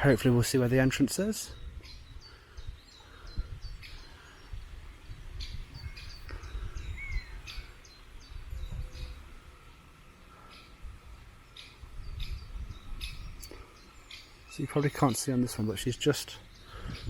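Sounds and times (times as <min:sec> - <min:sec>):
other birds calling: 0:00.0 - 0:17.0
young woodpeckers calling: 0:00.0 - 0:17.0.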